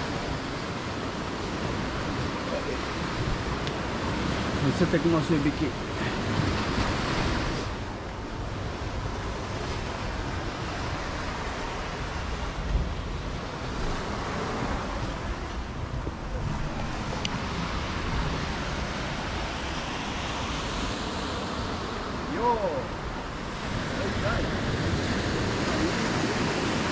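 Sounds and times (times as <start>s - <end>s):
sea surf washing ashore: 0.0s - 26.9s
wind rumbling on microphone: 0.0s - 26.9s.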